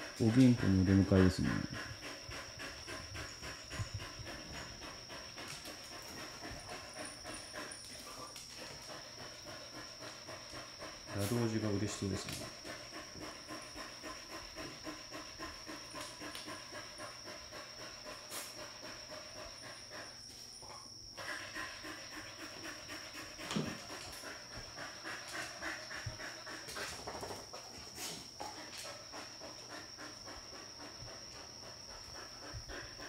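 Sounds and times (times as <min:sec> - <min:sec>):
dog panting: 0:00.0 - 0:33.0.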